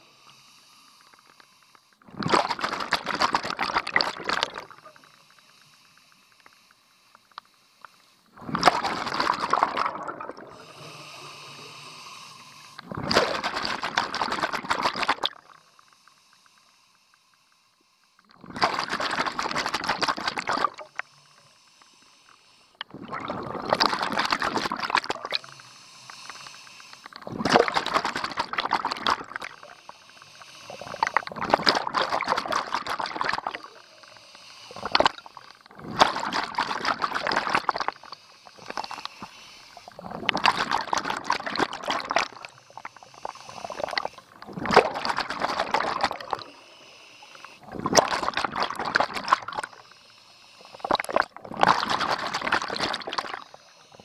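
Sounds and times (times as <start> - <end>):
underwater exhaled bubbles gurgling: 2.0 - 5.1, 8.3 - 15.6, 18.3 - 21.0, 22.8 - 49.9, 50.6 - 54.0.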